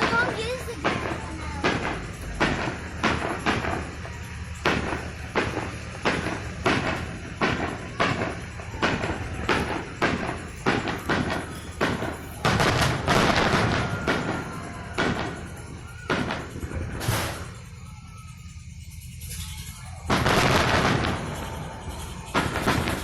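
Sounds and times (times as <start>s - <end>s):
fireworks booming: 0.0s - 23.0s.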